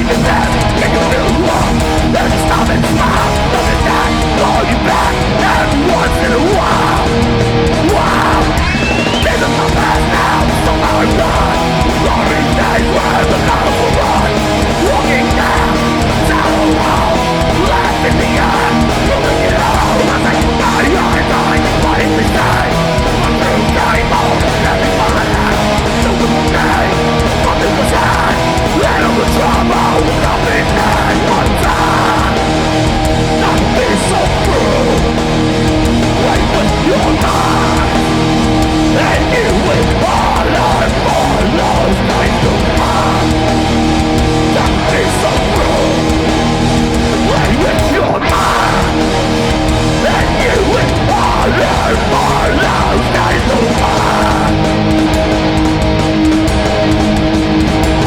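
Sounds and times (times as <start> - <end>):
distorted electric guitars: 0.0 - 58.0
pounding drums: 0.0 - 58.0.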